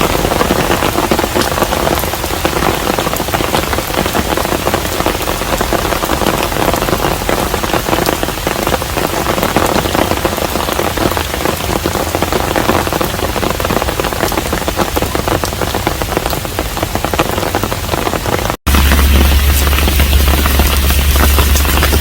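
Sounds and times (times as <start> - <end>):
rain pattering on house: 0.0 - 22.0.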